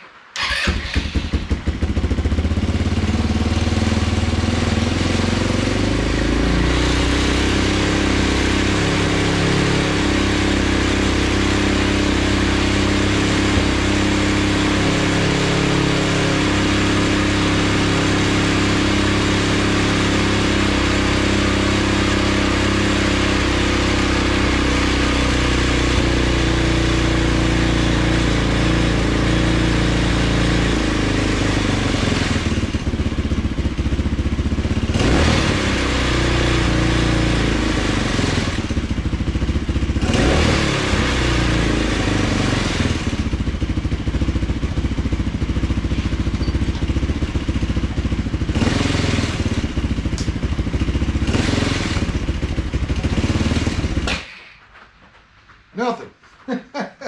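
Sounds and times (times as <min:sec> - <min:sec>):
atv engine revving: 0:00.4 - 0:54.2.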